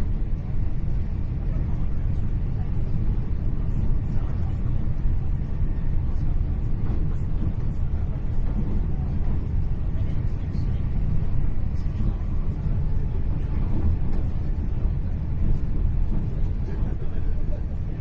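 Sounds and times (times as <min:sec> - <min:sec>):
train low rumble inside coach: 0:00.0 - 0:18.0.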